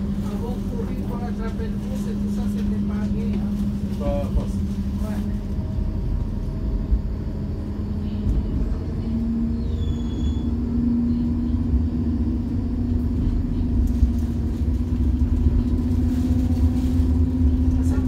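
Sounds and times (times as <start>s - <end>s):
tram motor hum: 0.0s - 18.0s
tram wheels rumbling on rails: 0.0s - 18.0s.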